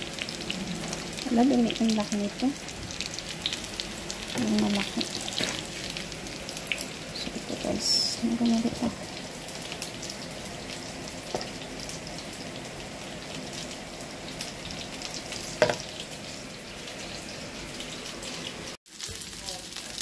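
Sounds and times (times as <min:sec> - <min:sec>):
chicken nuggets sizzling in oil: 0:00.0 - 0:20.0.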